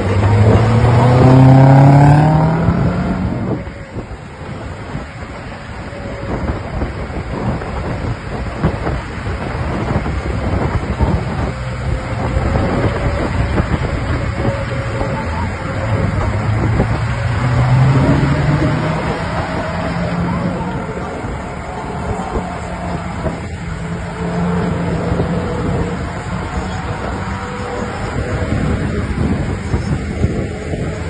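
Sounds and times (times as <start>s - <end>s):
off-road vehicle engine revving: 0.0s - 5.1s, 5.8s - 31.0s
driving noise: 0.0s - 31.0s.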